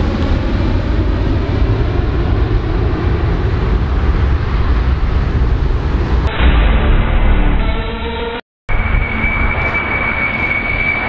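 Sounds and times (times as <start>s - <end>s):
airplane engines rumbling: 0.0s - 11.0s.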